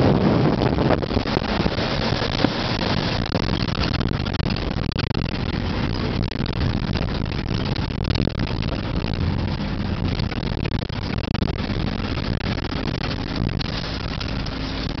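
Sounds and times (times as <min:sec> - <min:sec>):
road rumble: 0:00.0 - 0:15.0
vehicle engine hum: 0:00.0 - 0:15.0.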